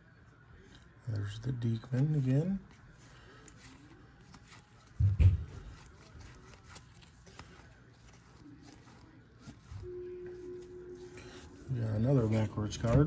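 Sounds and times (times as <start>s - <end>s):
trading cards clicking and rustling: 1.1s - 9.8s, 11.0s - 13.0s.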